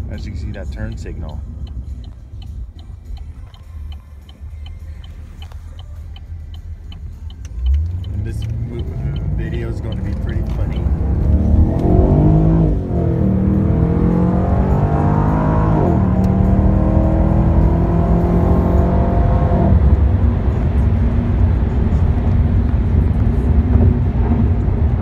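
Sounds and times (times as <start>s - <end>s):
car engine accelerating: 0.0s - 25.0s
road rumble: 0.0s - 25.0s.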